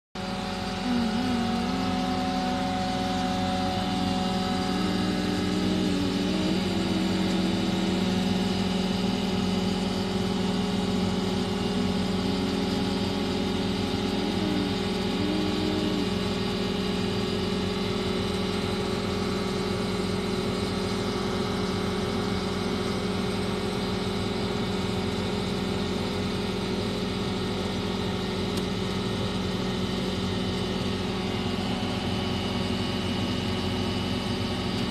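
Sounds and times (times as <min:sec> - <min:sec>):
diesel engine running: 0:00.2 - 0:34.9
high whine wavering in pitch: 0:00.2 - 0:34.9.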